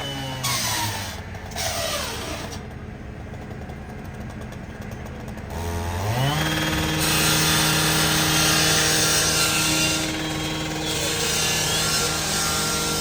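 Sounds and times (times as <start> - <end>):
gas-powered saw running: 0.0 - 2.8, 5.3 - 13.0.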